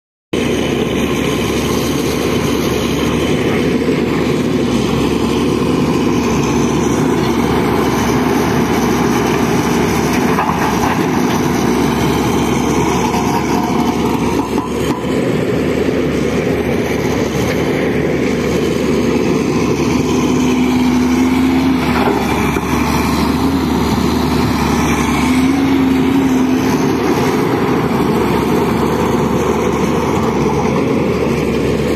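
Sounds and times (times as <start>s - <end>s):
heavy machinery diesel engine running: 0.4s - 31.9s.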